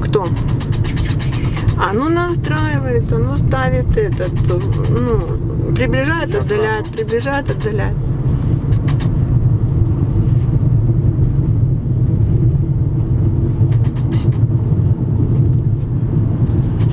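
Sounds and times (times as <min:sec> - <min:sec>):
car engine rumble: 0:00.0 - 0:16.9
road rumble inside car: 0:00.0 - 0:16.9.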